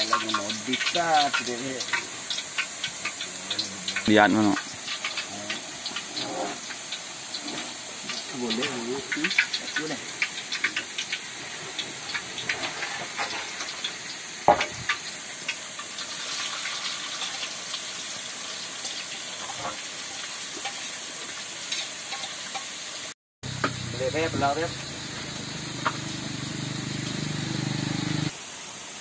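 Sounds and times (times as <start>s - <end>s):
leaves sizzling in a pan: 0.0s - 29.0s.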